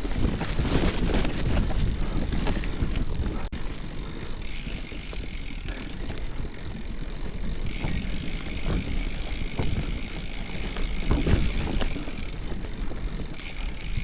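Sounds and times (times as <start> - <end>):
bicycle tyres rumbling: 0.0 - 14.0
bike and bags rattling: 0.0 - 14.0
wind buffeting microphone: 0.0 - 14.0.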